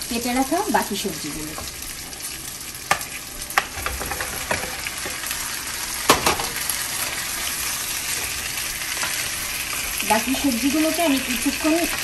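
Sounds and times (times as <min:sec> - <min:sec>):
vegetables sizzling in butter: 0:00.0 - 0:12.0.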